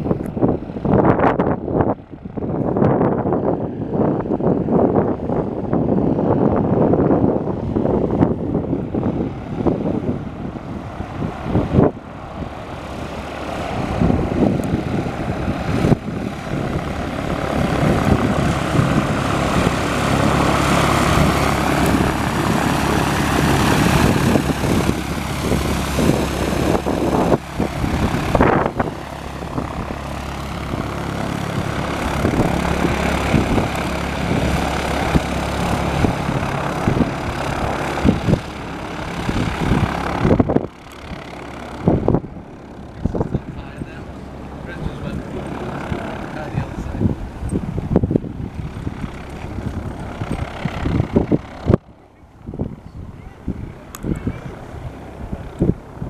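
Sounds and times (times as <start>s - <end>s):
airplane engine and propeller: 0.0s - 56.0s.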